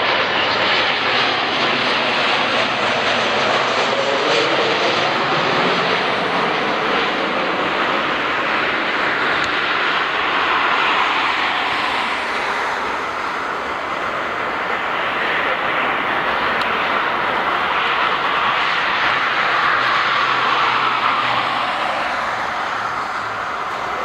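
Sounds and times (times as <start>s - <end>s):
jet engines at high power: 0.0s - 24.0s.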